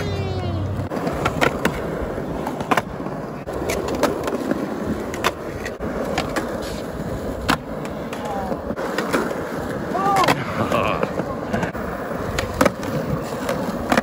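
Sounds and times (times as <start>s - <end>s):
skateboard clacking on ground: 0.0s - 14.0s
skateboard wheels rolling on concrete: 0.0s - 14.0s.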